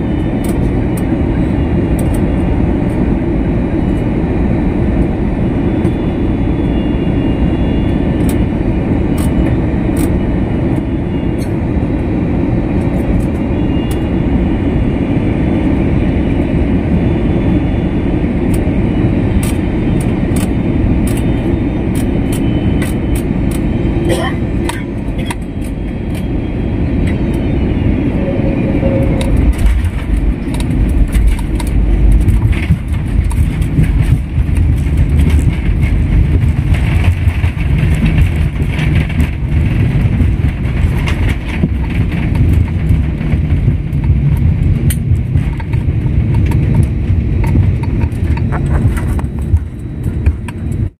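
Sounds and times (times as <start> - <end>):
jet engines and wheels rumbling: 0.0 - 51.0.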